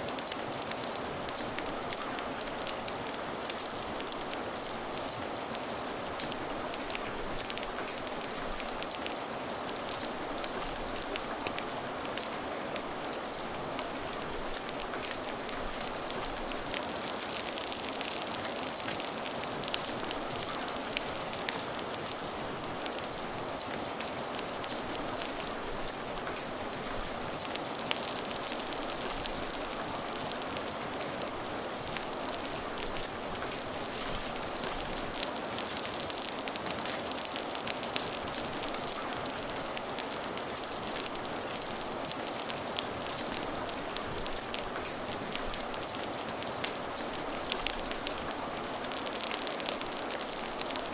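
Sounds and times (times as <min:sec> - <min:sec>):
fire crackling: 0:00.0 - 0:50.9
steady rain falling: 0:00.0 - 0:50.9.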